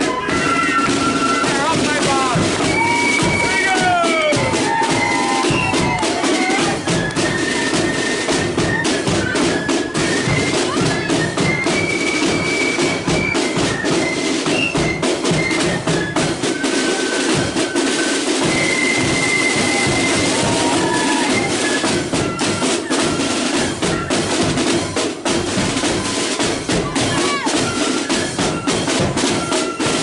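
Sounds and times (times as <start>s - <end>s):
flutes playing melody: 0.0s - 30.0s
side drums and bass drum: 0.0s - 30.0s.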